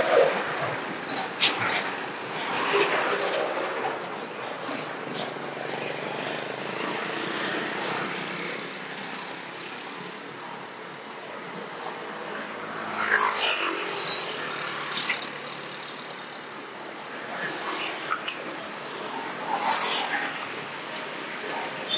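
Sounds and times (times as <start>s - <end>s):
road traffic passing: 0.0s - 21.9s.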